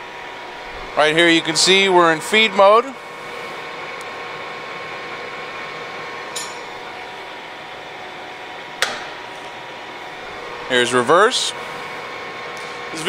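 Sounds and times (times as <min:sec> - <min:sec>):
lathe humming with gear whine: 0:00.0 - 0:13.0.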